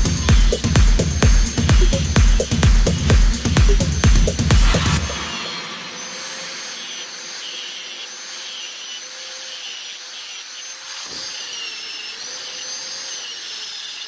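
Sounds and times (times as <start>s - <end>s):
grinder disc grinding steel: 0.0s - 14.0s.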